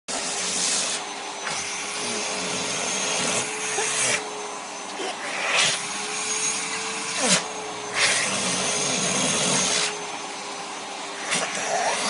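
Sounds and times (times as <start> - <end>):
vacuum cleaner running: 0.1 - 12.0.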